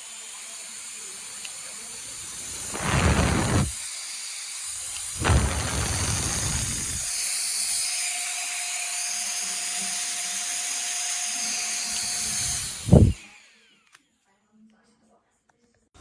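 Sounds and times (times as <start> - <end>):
handheld fan running at high speed: 0.0 - 14.0.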